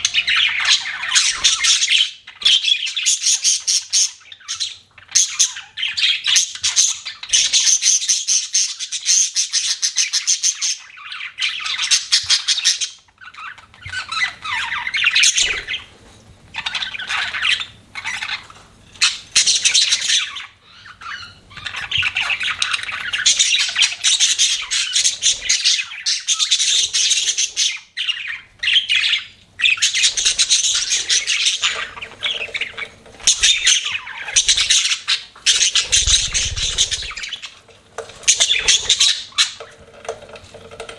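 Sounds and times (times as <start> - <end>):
budgerigars chirping: 0.0 - 40.0.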